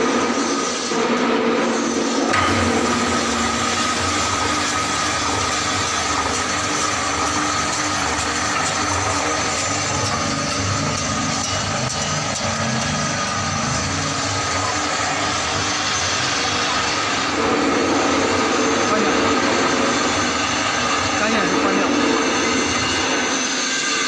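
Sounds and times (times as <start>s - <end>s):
mixer motor running: 0.0s - 24.0s.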